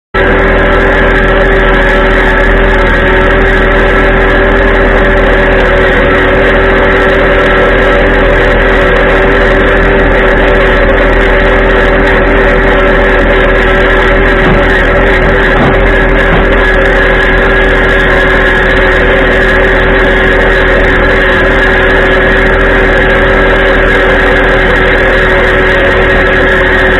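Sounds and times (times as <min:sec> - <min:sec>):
tractor engine running: 0:00.2 - 0:26.9.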